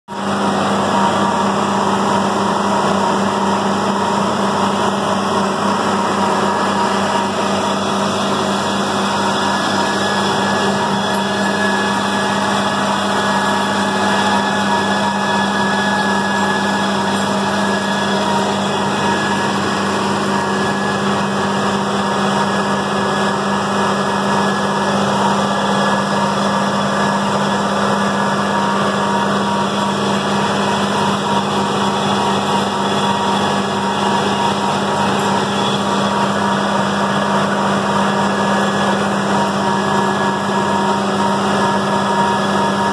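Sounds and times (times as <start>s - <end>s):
tractor engine running: 0.1s - 42.9s.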